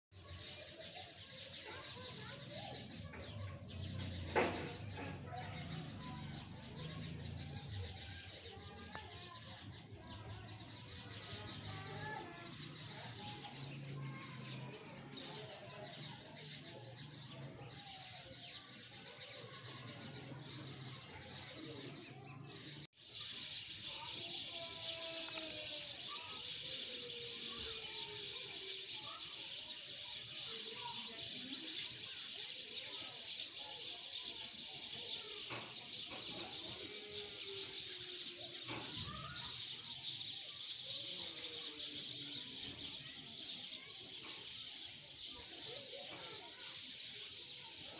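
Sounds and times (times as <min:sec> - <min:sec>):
small birds chirping: 0:00.1 - 0:47.9.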